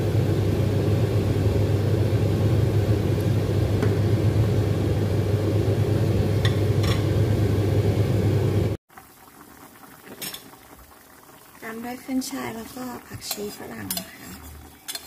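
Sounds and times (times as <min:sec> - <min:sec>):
soup boiling: 0:00.1 - 0:15.0.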